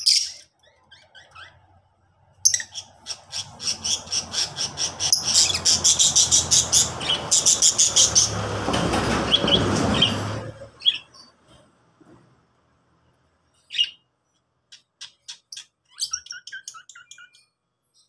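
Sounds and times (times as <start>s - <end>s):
lovebirds chirping: 0.0s - 8.4s, 9.3s - 11.4s, 13.6s - 18.0s.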